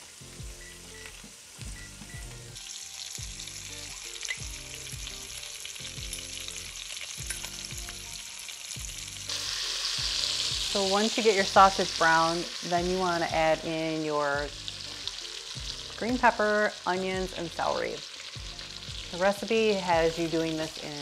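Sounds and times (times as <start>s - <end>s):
sausage sizzling in grease: 0.0s - 21.0s.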